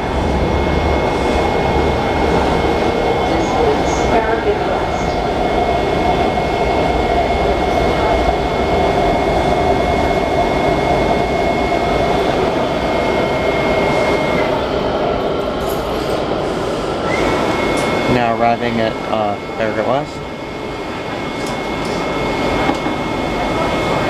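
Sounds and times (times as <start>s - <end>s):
steady high whine: 0.0s - 24.0s
subway car wheels rumbling: 0.0s - 24.0s.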